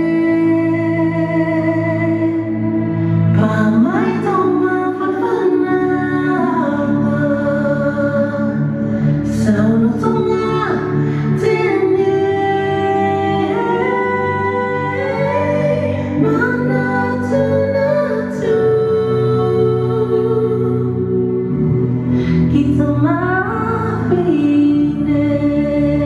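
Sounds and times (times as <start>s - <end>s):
slow dance music: 0.0s - 26.0s.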